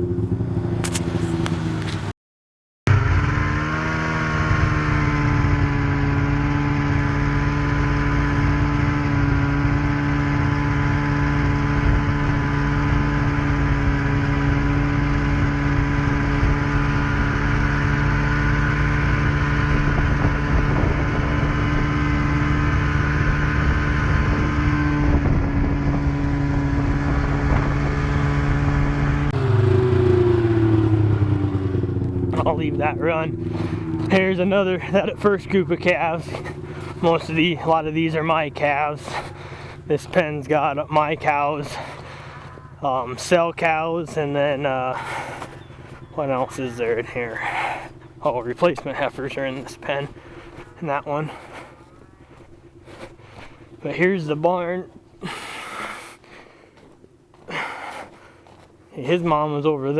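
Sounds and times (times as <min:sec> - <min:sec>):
tractor engine running: 0:00.0 - 0:02.1, 0:02.9 - 0:59.9.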